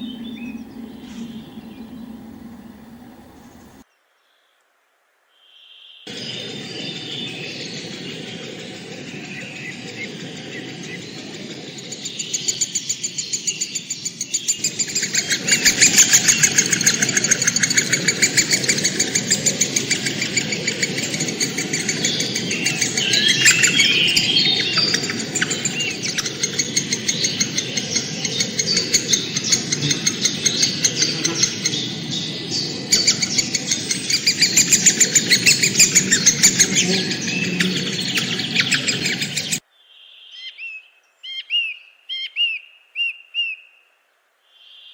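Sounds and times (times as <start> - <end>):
birds chirping: 0.0 - 3.8, 6.1 - 43.6
steady low background noise: 0.0 - 5.5, 6.1 - 42.2.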